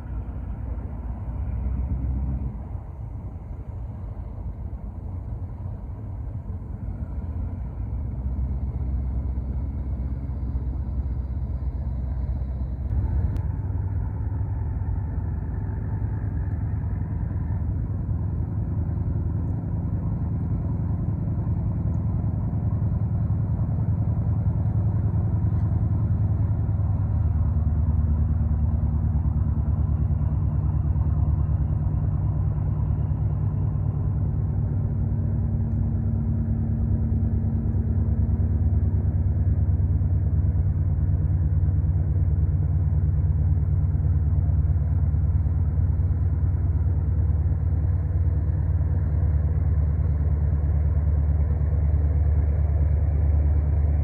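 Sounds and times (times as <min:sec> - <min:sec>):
ship engine droning: 0:00.0 - 0:54.0.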